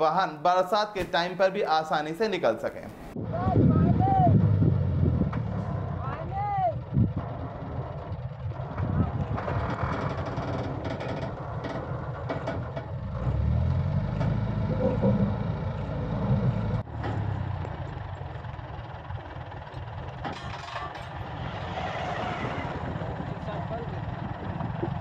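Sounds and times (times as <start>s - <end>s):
diesel engine running: 3.0s - 25.0s.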